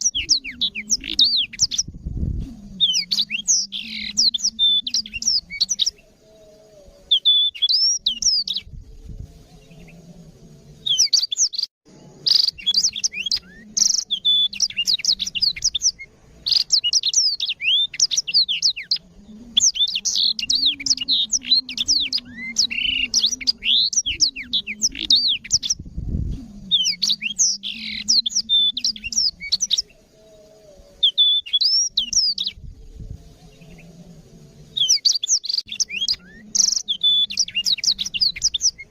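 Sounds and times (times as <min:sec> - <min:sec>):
bird twittering trills and chirps: 0:00.0 - 0:38.9.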